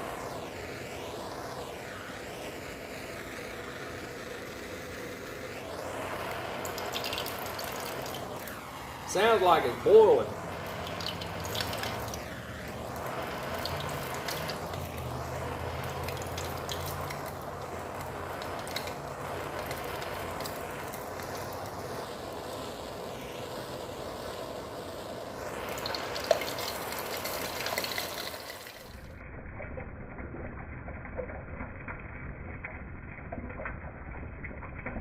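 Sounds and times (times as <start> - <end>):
fuel bubbling and sizzling: 0.0 - 35.0.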